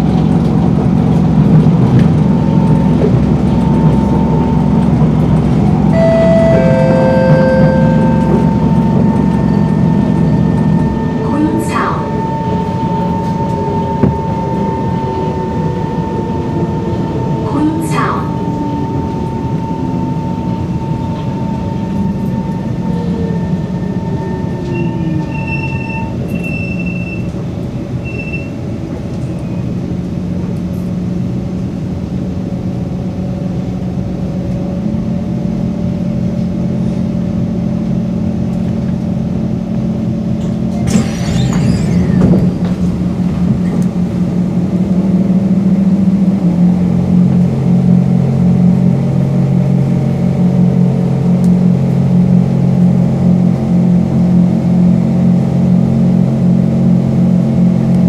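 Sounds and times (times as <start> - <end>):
train motor hum and wheel noise: 0.0 - 58.0.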